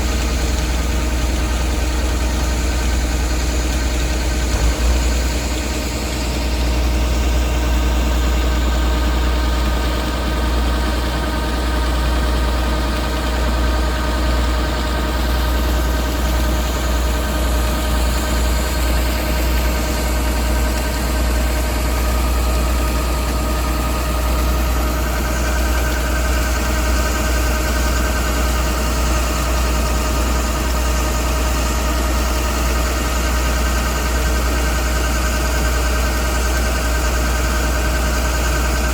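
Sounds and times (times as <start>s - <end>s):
combine harvester engine rumbling: 0.0s - 38.9s.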